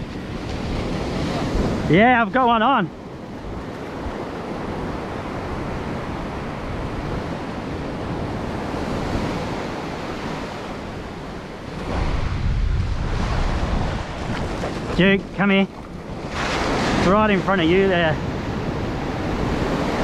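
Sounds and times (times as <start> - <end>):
wind noise on microphone: 0.0 - 1.9, 3.2 - 17.4, 18.2 - 20.0
surf breaking on a beach: 0.0 - 20.0.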